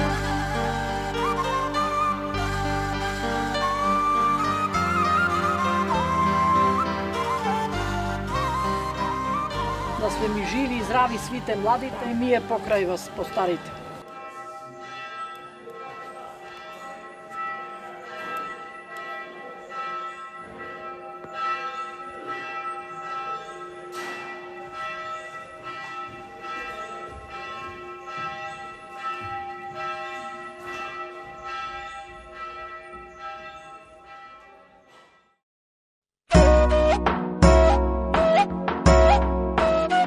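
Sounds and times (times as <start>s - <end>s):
church bell ringing: 0.0s - 35.4s.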